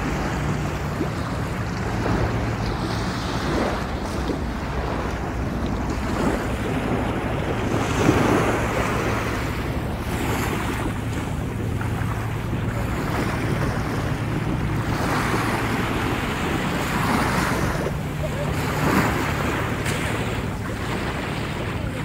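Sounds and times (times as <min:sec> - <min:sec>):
sea waves washing onto shore: 0:00.0 - 0:22.0
wind buffeting microphone: 0:00.0 - 0:22.0.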